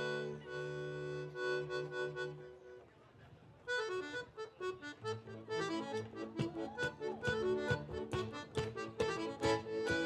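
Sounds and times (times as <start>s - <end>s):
accordion playing: 0.0s - 2.8s, 3.7s - 10.0s.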